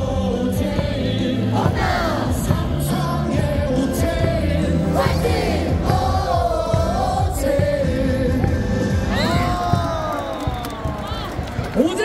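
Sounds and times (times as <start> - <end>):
crowd singing along: 0.0 - 10.0
cheer song over loudspeakers: 0.0 - 12.0.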